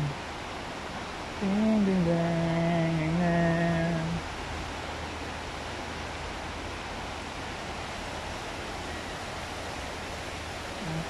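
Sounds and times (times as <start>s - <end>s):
fountain water splashing: 0.0s - 11.0s
low steady hum: 0.0s - 11.0s.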